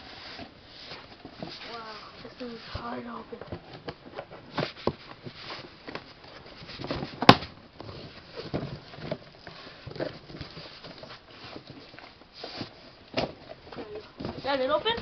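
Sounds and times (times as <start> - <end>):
packaging rustling and scraping: 0.0 - 15.0.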